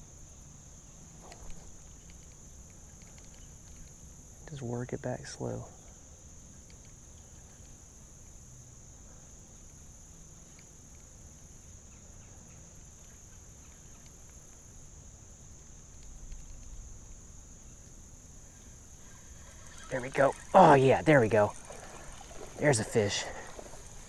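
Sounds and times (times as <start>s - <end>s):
insect chorus buzzing: 0.0s - 24.0s.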